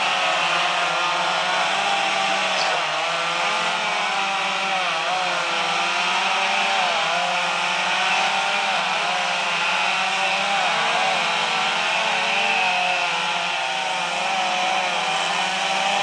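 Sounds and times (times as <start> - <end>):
chainsaws cutting wood: 0.0 - 16.0.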